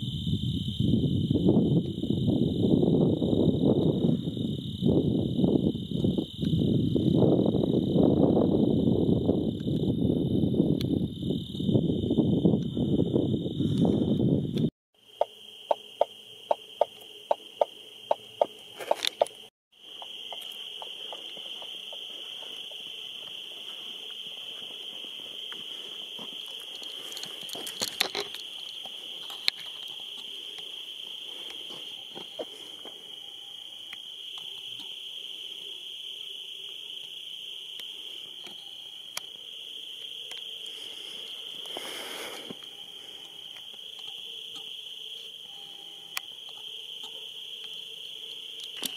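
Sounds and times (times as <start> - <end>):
insect chorus high trill: 0.0 - 48.9.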